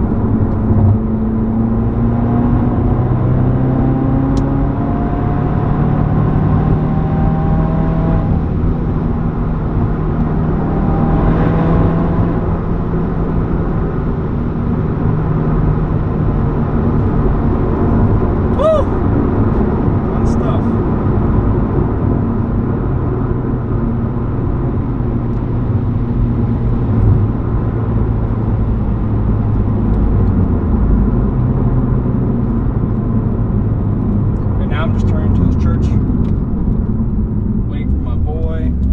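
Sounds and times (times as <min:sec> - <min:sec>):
car exhaust droning: 0:00.0 - 0:38.9.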